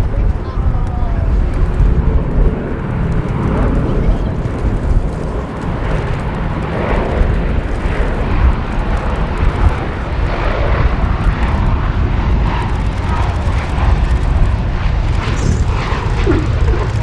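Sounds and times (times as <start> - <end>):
aircraft radial engines droning: 0.0 - 17.0.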